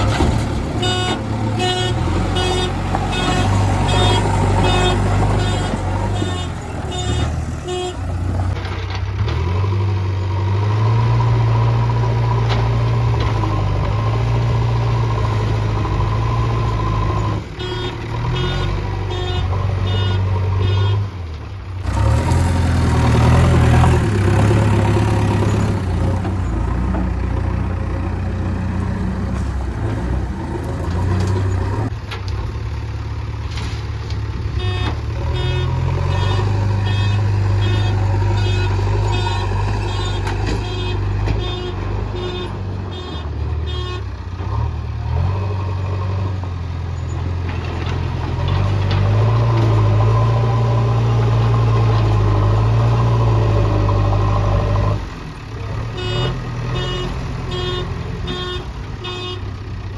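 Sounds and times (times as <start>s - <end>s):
diesel engine digging: 0.0s - 59.9s.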